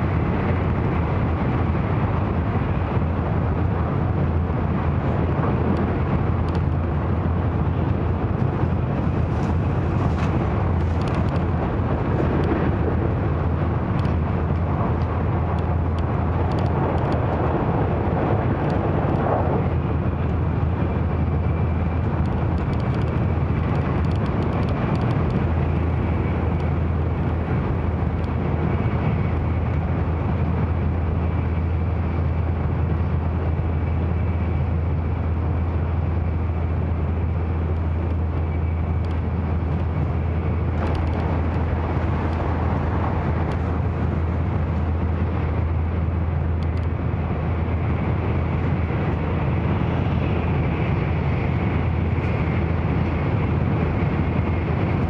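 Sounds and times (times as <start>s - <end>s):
low train cabin hum: 0.0s - 55.0s
rush of wheel rail and air noise: 0.0s - 55.0s.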